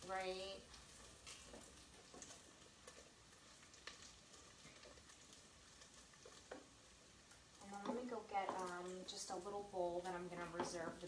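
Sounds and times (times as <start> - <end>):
bacon sizzling: 0.0 - 11.0.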